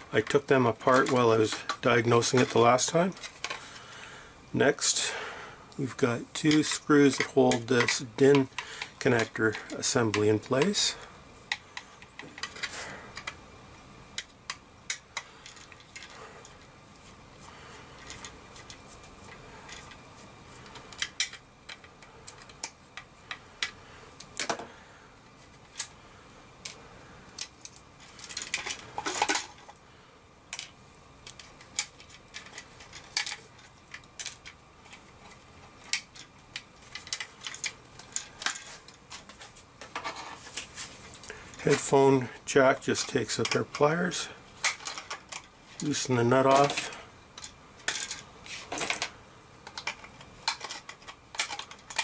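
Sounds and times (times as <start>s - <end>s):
plastic parts clicking and scraping: 0.1s - 4.0s, 5.9s - 13.4s, 14.1s - 17.2s, 17.9s - 24.7s, 26.6s - 29.8s, 30.5s - 42.0s, 42.7s - 49.0s, 49.6s - 52.0s.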